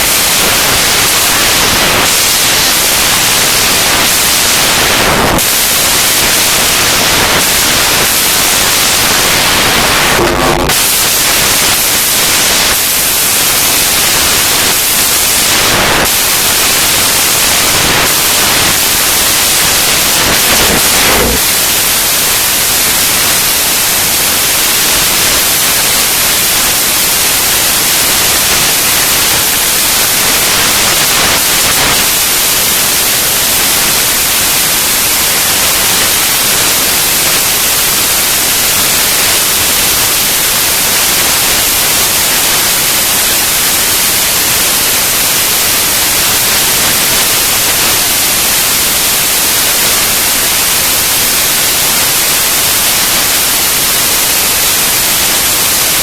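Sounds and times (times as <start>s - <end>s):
loud steady hiss: 0.0s - 56.0s.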